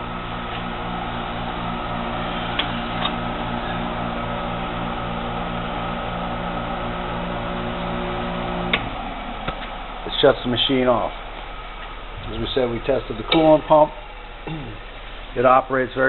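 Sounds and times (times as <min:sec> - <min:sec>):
electric motor humming: 0:00.0 - 0:16.0.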